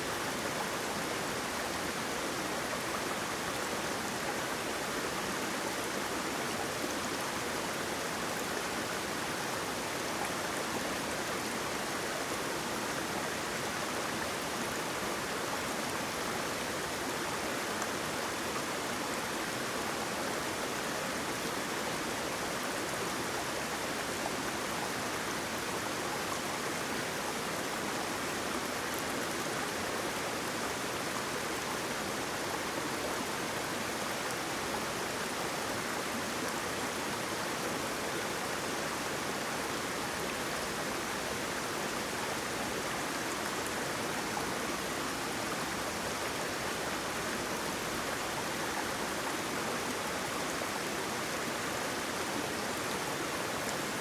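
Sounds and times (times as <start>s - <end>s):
waterfall water flowing: 0.0s - 54.0s.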